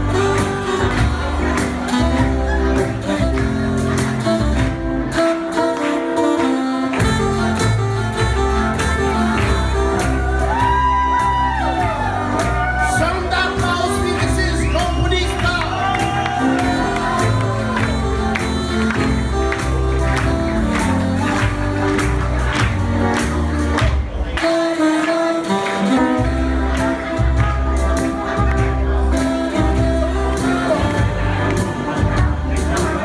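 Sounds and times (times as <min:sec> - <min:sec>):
horn melody: 0:00.0 - 0:32.6
jazz band playing: 0:00.0 - 0:33.0.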